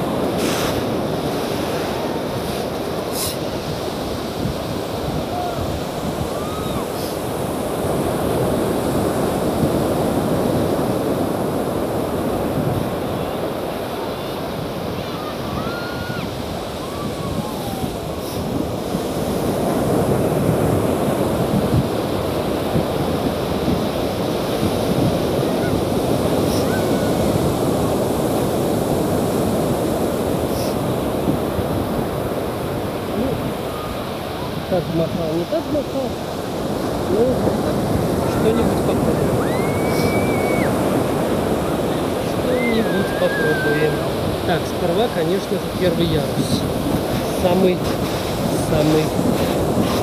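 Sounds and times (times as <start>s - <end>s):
ocean surf breaking on beach: 0.0s - 50.0s.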